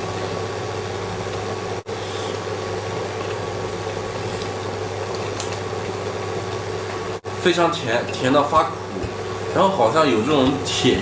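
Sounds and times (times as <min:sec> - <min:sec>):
steady mechanical hum with hiss: 0:00.0 - 0:11.0.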